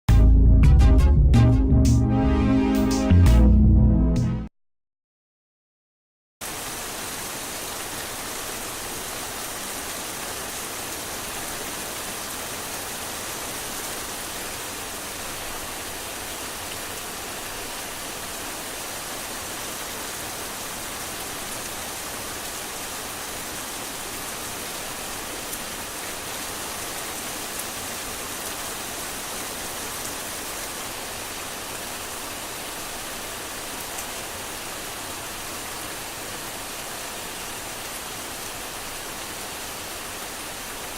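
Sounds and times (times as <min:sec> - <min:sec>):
heavy rain falling: 0:06.4 - 0:40.9.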